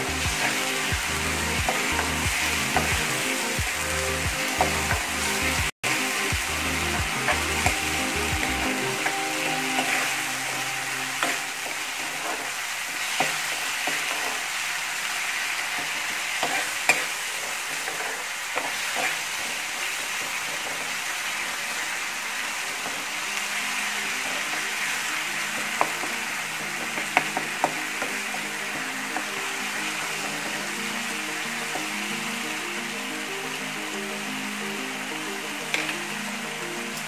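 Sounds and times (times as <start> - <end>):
masala sizzling in oil: 0.0 - 37.0.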